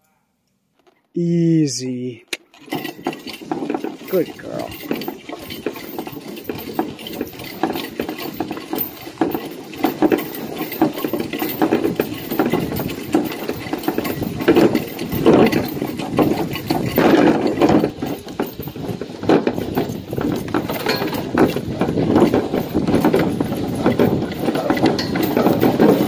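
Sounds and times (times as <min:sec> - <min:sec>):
harness clicking and rattling: 0:00.7 - 0:01.2, 0:02.2 - 0:26.0.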